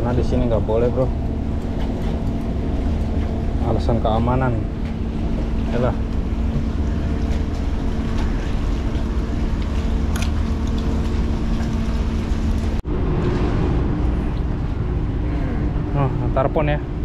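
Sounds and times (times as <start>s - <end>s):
boat engine humming: 0.0s - 17.0s
wind rumble on microphone: 0.0s - 17.0s.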